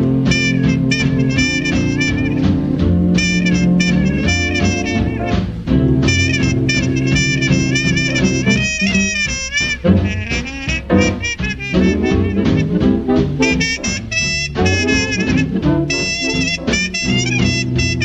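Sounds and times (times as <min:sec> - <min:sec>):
upbeat swing jazz with brass: 0:00.0 - 0:18.0.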